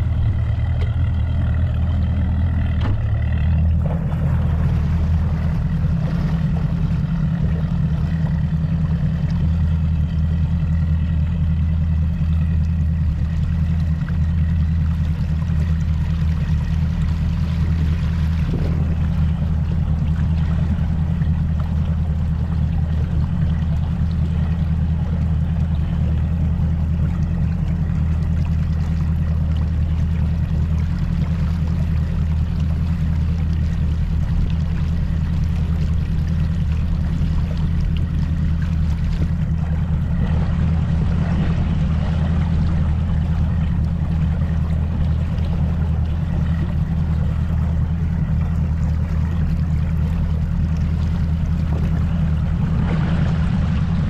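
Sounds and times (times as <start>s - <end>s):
outboard engine drone: 0.0s - 54.0s
water and wind rushing: 0.0s - 54.0s.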